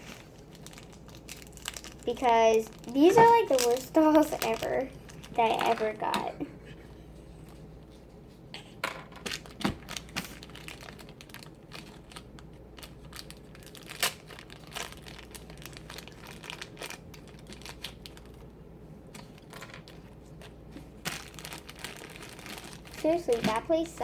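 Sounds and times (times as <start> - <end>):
packaging crinkling and rustling: 0.0 - 6.3, 9.0 - 24.0.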